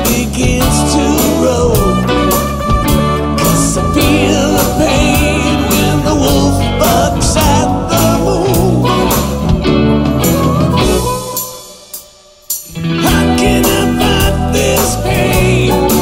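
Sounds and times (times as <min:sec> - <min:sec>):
blues-rock song: 0:00.0 - 0:16.0.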